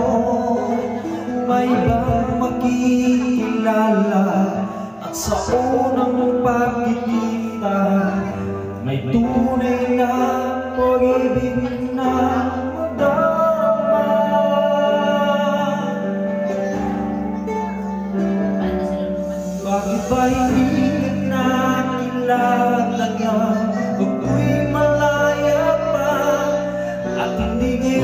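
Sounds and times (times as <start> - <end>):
backing music: 0.0 - 28.0
man singing a slow ballad: 0.0 - 28.0.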